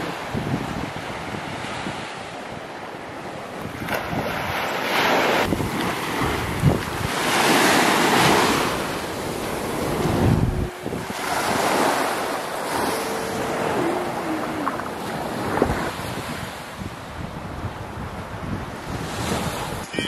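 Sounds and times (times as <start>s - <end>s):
wind buffeting microphone: 0.0s - 19.9s
small waves breaking on sand: 0.0s - 20.0s.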